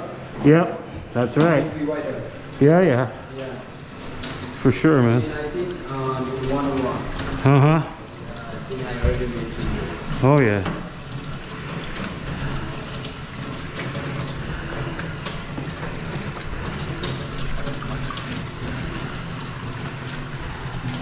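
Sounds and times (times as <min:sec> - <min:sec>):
crackling patter of water: 0:00.0 - 0:21.0.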